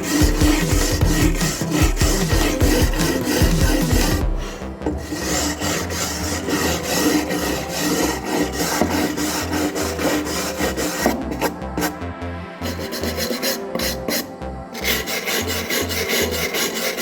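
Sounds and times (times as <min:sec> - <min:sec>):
wooden boards being rubbed: 0:00.0 - 0:12.0, 0:12.6 - 0:17.0.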